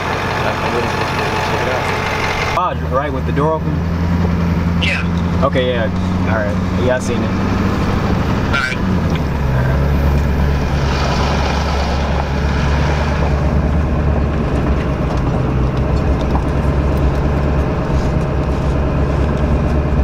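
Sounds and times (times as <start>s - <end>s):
truck cab engine and road drone: 0.0s - 20.0s.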